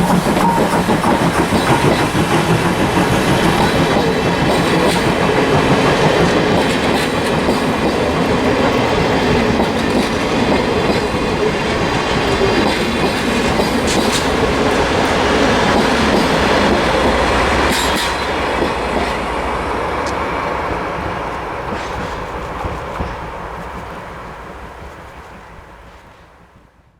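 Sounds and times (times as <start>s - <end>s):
train rolling past: 0.0s - 26.9s.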